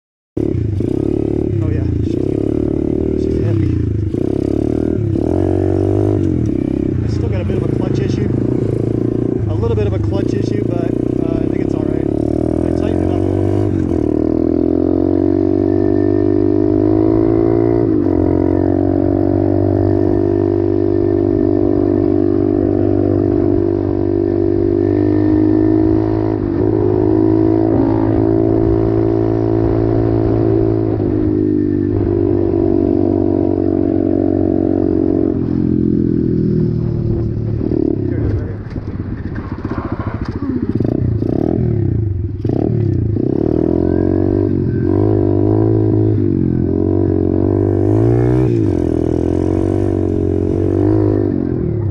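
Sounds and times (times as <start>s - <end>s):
pit bike engine running: 0.4s - 51.9s.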